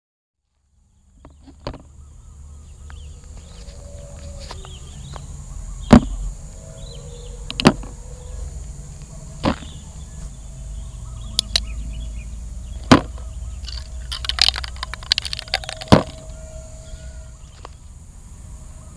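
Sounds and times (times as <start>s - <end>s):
low steady rumble: 0.6s - 18.9s.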